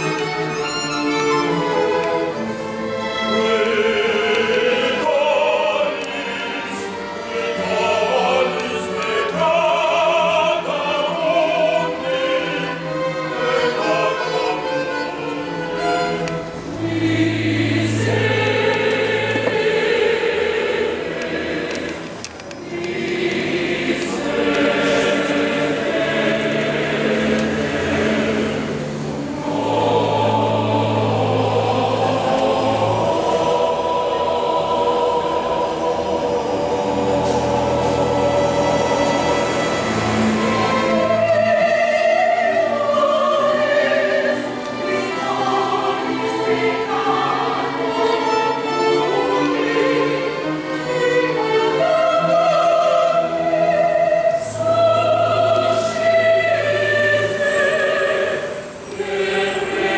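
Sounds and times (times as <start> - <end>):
choir singing with orchestra: 0.0 - 59.9.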